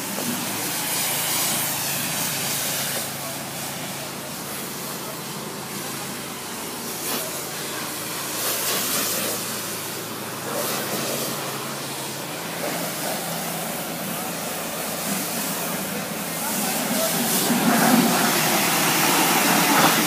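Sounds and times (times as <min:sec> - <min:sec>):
water jets spraying onto car: 0:00.0 - 0:20.0.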